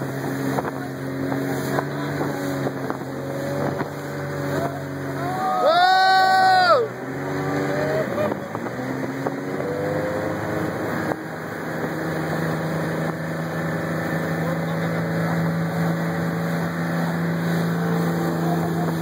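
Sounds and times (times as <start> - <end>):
churning wake water: 0.0 - 19.0
motorboat engine running: 0.0 - 19.0.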